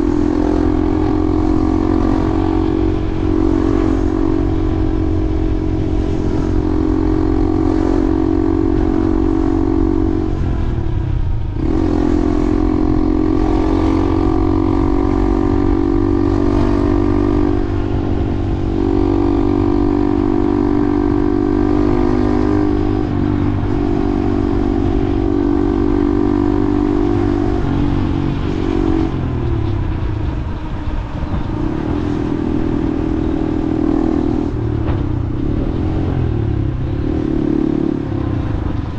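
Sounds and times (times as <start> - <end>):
vehicle motor running: 0.0 - 38.9
wind and road noise: 0.0 - 38.9.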